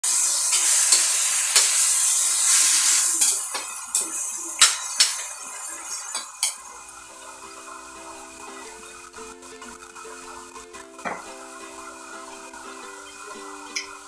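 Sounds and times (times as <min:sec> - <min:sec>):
food sizzling in wok: 0:00.0 - 0:14.0.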